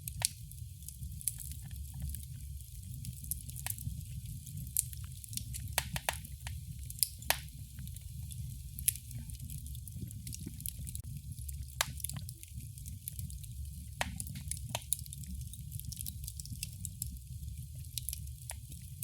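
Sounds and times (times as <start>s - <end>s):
low rumble of burning: 0.0s - 19.0s
wood fire popping and crackling: 0.0s - 19.0s.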